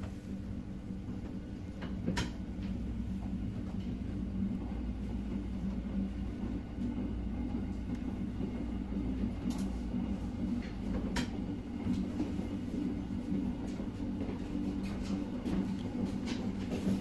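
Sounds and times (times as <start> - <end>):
train interior drone: 0.0 - 17.0.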